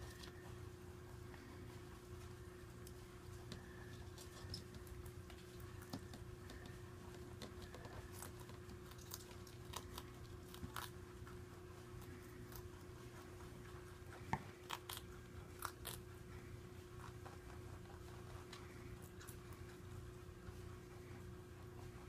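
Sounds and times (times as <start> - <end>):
rabbit crunching greens: 0.0 - 22.0
steady low hum: 0.0 - 22.0.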